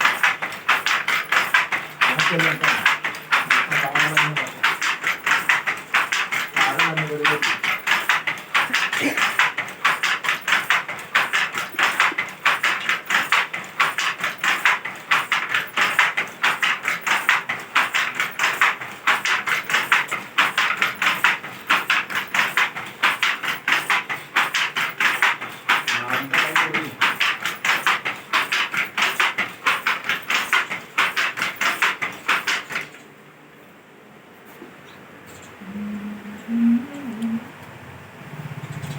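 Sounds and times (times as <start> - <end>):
handloom clacking: 0.0 - 33.1.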